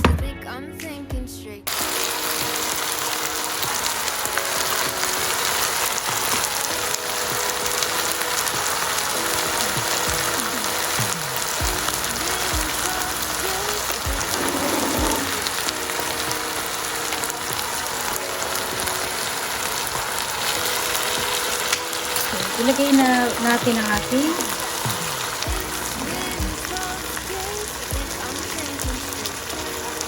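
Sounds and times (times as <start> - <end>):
background music: 0.0 - 30.0
chicken sizzling in a pan: 1.7 - 30.0.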